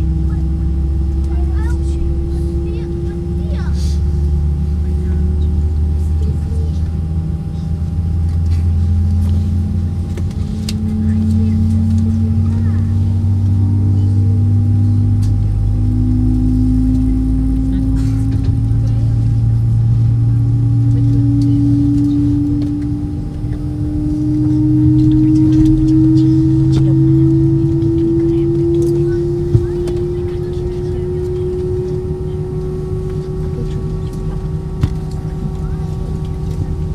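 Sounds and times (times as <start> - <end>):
aircraft engine drone: 0.0 - 36.9
constant higher hum: 0.0 - 36.9.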